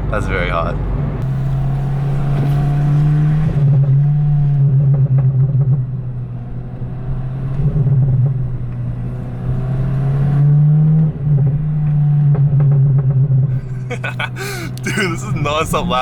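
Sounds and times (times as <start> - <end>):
car engine droning while driving: 0.7 - 16.0.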